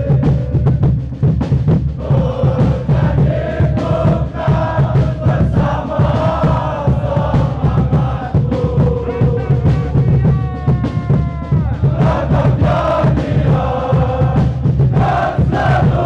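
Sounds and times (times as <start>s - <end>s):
crowd chanting in unison: 0.0s - 0.8s, 2.0s - 10.3s, 11.6s - 16.0s
steady drum beat: 0.0s - 16.0s.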